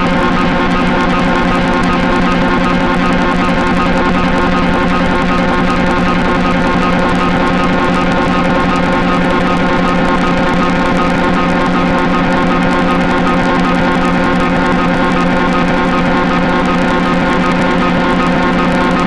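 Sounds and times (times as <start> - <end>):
synthesizer drone: 0.0 - 19.0.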